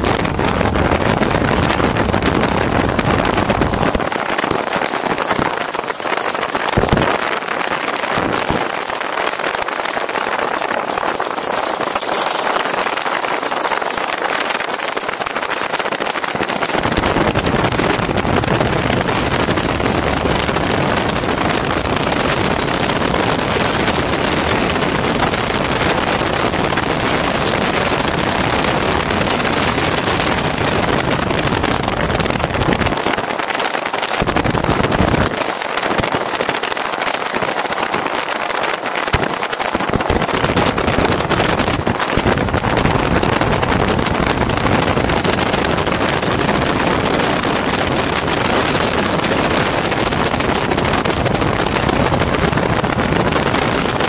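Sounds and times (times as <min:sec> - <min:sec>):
two-stroke engine running: 0:00.0 - 0:54.0
wind noise on microphone: 0:00.0 - 0:54.0.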